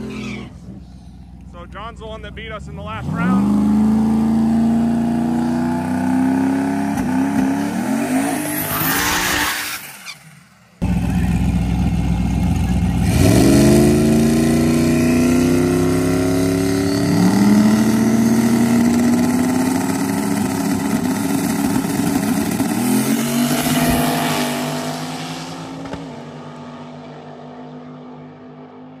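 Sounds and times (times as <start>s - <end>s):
cars launching down track: 0.0s - 11.6s, 12.2s - 29.0s
drag car engines revving: 0.0s - 29.0s.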